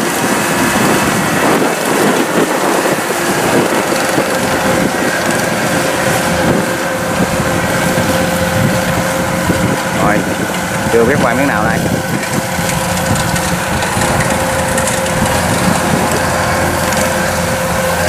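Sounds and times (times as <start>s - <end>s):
combine harvester running: 0.0s - 18.0s
steady mechanical whine: 0.0s - 18.0s.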